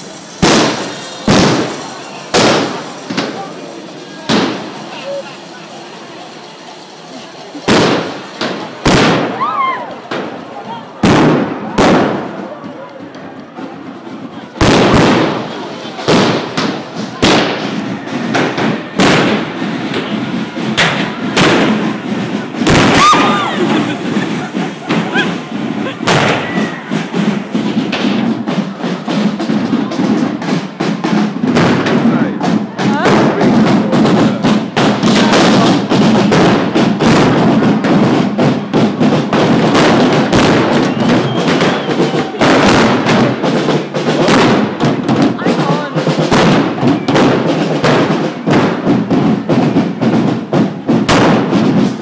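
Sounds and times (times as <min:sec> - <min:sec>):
loud drumming: 0:00.0 - 0:05.0, 0:07.6 - 0:52.0
firecrackers banging: 0:00.0 - 0:52.0.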